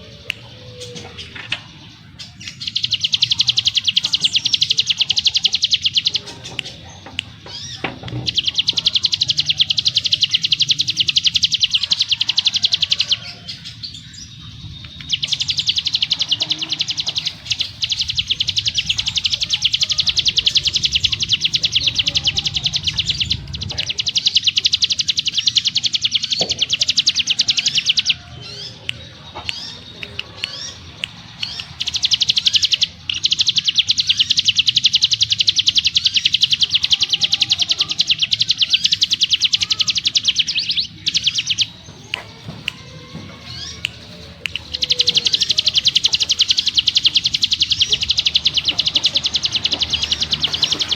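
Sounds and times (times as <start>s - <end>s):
bird chirps: 0.0s - 50.9s
bird trilling: 0.0s - 50.9s.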